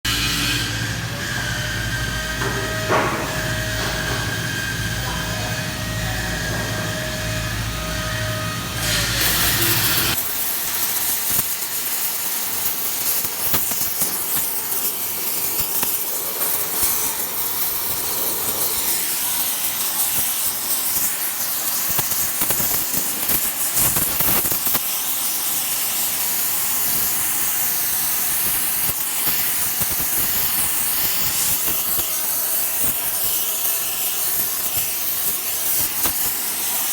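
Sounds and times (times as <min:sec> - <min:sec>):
welding hiss and crackling: 0:00.1 - 0:36.9.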